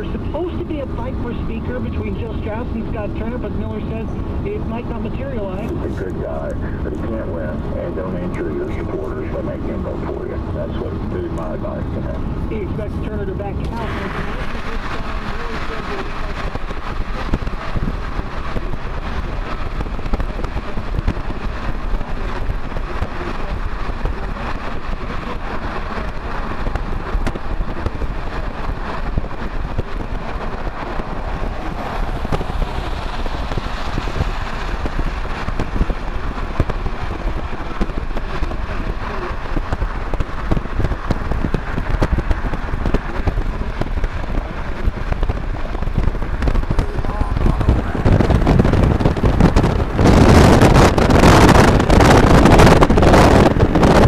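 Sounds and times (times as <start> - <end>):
tyres and wind rushing: 0.0 - 54.0.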